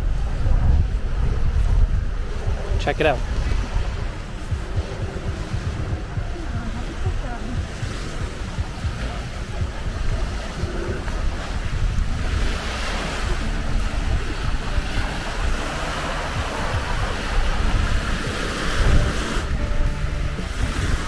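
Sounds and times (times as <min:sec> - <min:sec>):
waves washing onto sand: 0:00.0 - 0:21.0
wind buffeting microphone: 0:00.0 - 0:21.0.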